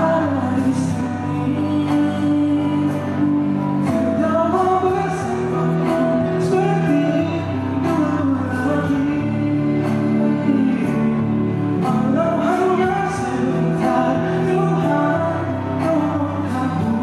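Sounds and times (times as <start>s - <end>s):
held instrumental chords: 0.0s - 17.0s
man singing into microphone: 0.0s - 17.0s.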